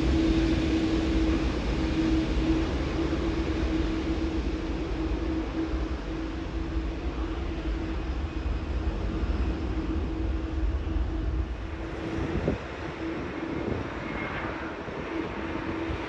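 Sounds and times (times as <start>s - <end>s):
jet engines humming: 0.0s - 16.0s.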